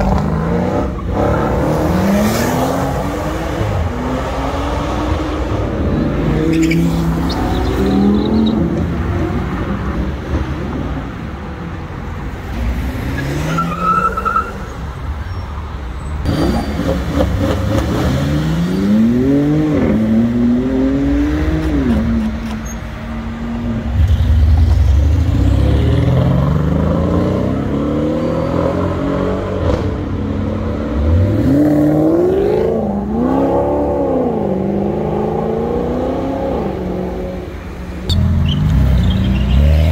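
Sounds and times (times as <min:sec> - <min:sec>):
car engines accelerating hard: 0:00.0 - 0:11.6, 0:16.2 - 0:22.6, 0:23.2 - 0:39.9.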